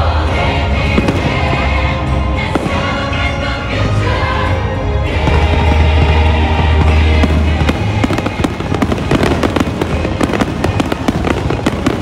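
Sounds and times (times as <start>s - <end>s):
fireworks bangs and crackling: 0.0s - 12.0s
music: 0.0s - 12.0s.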